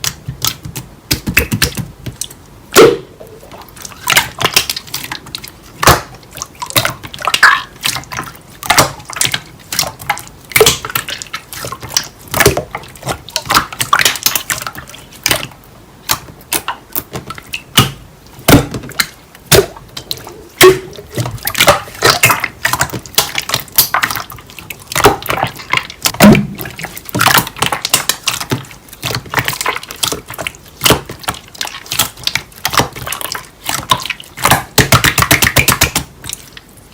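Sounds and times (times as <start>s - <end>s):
slime squelching: 0.0s - 36.9s.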